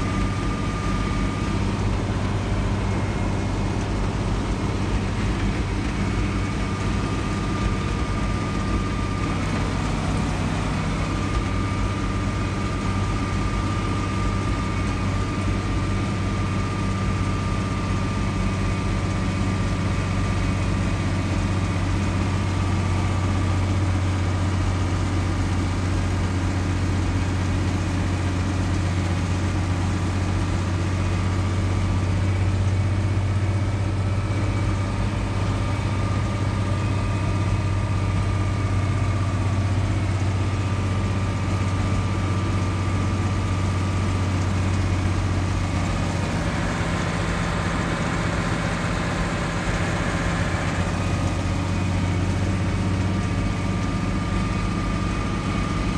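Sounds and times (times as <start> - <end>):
tractor engine droning with whine: 0.0 - 55.9.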